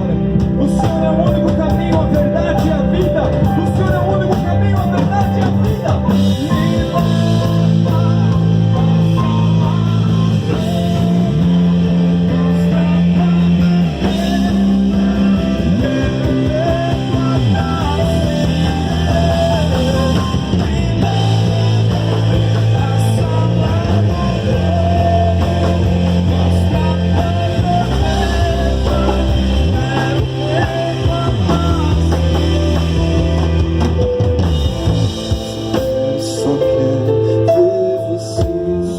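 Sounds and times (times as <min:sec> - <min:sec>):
drums: 0:00.0 - 0:38.9
electric guitar lead: 0:00.0 - 0:38.9
keyboard: 0:00.0 - 0:38.9
sustained bass notes: 0:00.0 - 0:38.9.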